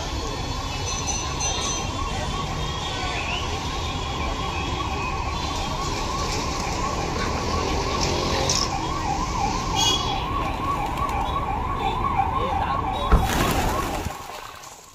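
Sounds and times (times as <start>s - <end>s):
street noise: 0.0s - 14.9s
siren wailing: 1.7s - 14.6s.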